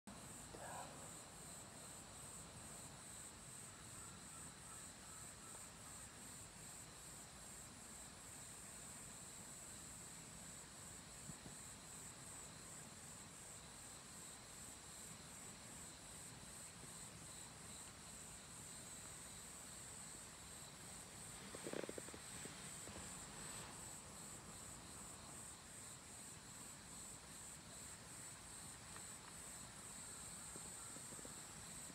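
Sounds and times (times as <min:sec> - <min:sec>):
insects chirping: 0:00.1 - 0:31.9.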